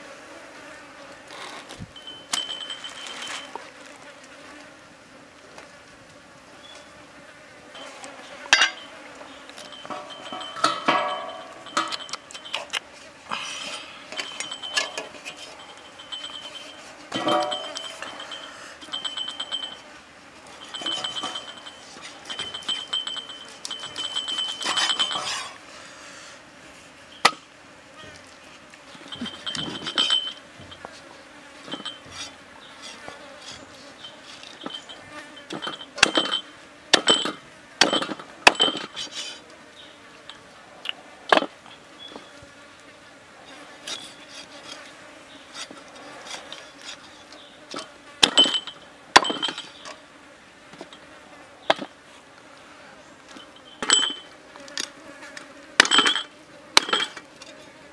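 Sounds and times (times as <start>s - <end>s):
insects buzzing: 0.0s - 57.9s.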